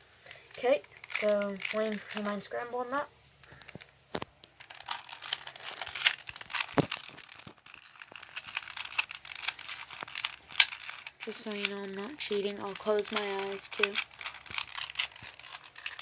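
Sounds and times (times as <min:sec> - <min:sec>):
plastic puzzle cube clicking: 0:00.3 - 0:02.6, 0:03.5 - 0:16.0.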